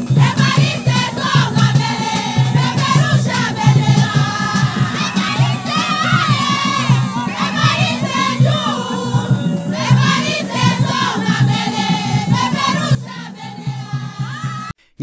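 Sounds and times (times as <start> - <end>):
voices singing and chanting: 0.0 - 14.7
drums beaten in steady rhythm: 0.0 - 14.8.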